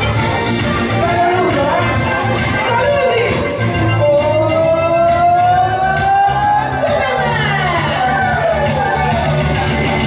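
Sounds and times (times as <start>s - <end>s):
dance music over speakers: 0.0s - 10.0s.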